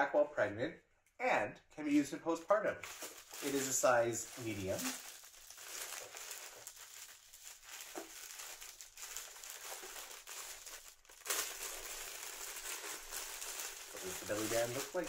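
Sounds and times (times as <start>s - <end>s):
plastic packaging crinkling: 2.8s - 15.0s.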